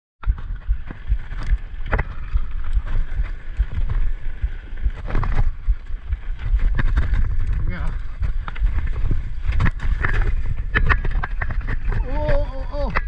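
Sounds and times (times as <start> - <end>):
sharp clicks and knocks: 0.2 - 13.0
wind buffeting microphone: 0.2 - 13.0.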